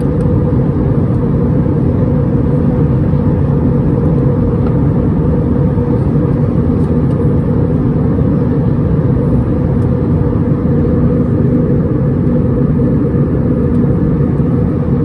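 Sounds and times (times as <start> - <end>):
faint steady hum: 0.0 - 15.0
jet engine cabin rumble: 0.0 - 15.0.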